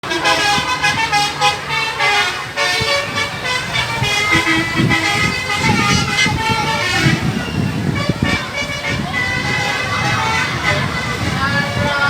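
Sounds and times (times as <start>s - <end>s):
multi-tone bus air horn tune: 0.0s - 12.0s.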